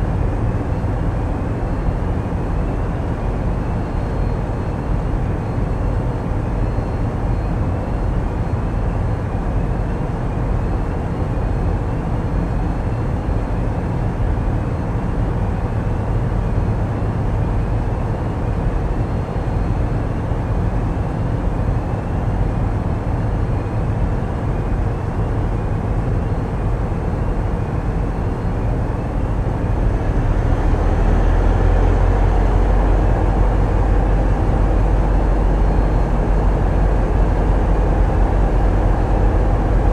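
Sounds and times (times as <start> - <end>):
diesel engines rumbling: 0.0 - 39.9.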